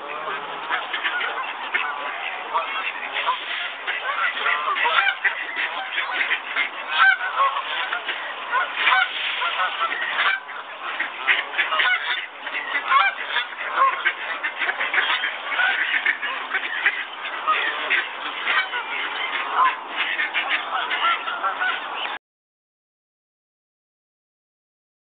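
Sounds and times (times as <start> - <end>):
flock of waterfowl calling: 0.0 - 22.2.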